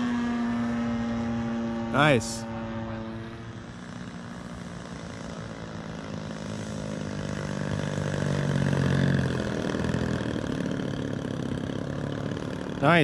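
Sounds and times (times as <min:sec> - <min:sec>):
model plane engine and propeller: 0:00.0 - 0:13.0.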